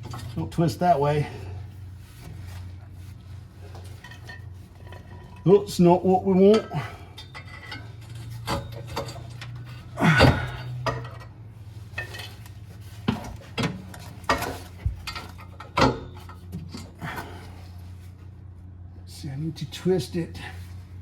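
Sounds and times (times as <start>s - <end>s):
metal exhaust parts clanking: 0.0s - 18.2s
steady low hum: 0.0s - 21.0s.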